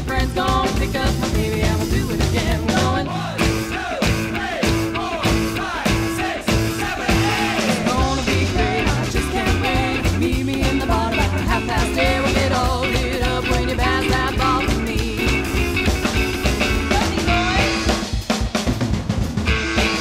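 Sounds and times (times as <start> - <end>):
rock and roll song with singing: 0.0 - 18.8
steady drum beat: 0.0 - 20.0.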